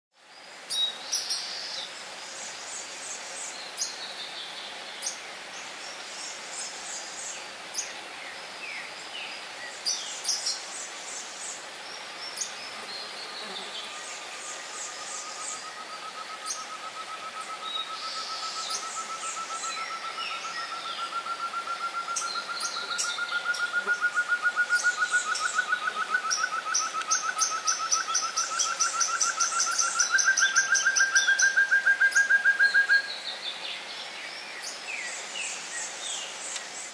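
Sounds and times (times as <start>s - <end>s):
forest birds chirping: 0.2s - 36.9s.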